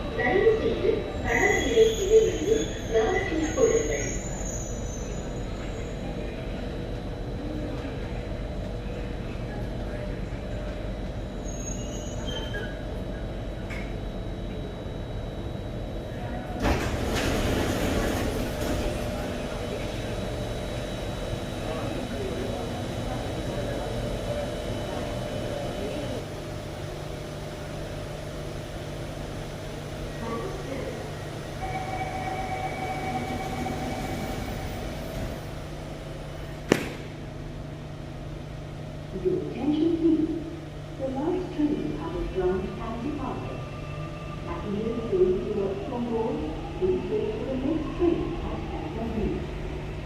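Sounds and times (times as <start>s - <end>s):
metro train rumble: 0.0s - 50.0s.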